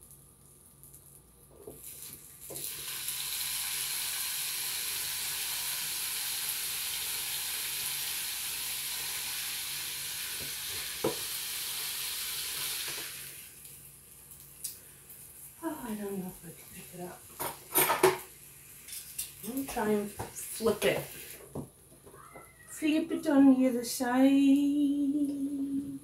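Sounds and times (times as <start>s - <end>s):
meat sizzling in waffle maker: 0.0s - 21.6s.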